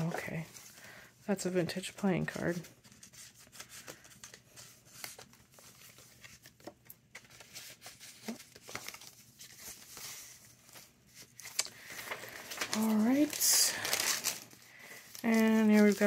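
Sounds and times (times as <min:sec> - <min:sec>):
paper rustling and crinkling: 0:00.0 - 0:16.0
pages turning: 0:02.3 - 0:16.0.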